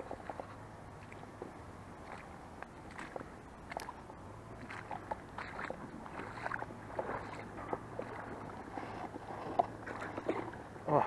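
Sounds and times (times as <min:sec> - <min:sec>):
footsteps wading through water and mud: 0:00.0 - 0:11.0.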